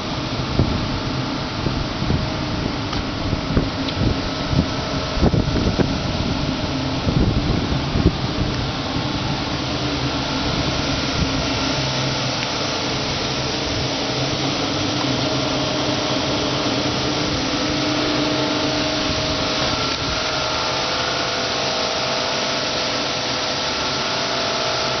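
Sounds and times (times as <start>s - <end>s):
pressure washer running: 0.0s - 25.0s.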